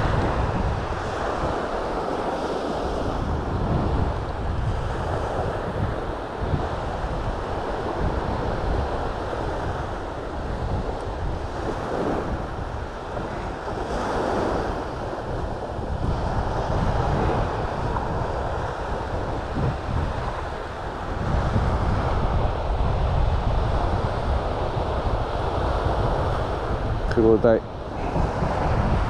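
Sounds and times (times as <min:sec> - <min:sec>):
waves breaking on shore: 0:00.0 - 0:29.0
wind noise on microphone: 0:00.0 - 0:29.0.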